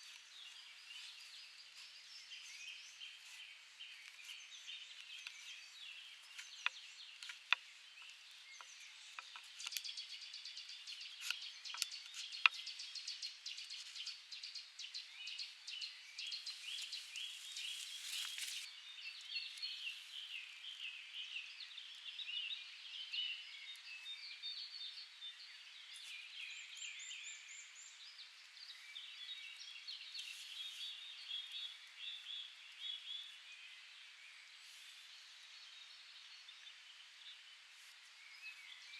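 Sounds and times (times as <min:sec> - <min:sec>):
birds singing and chirping: 0:00.0 - 0:37.6.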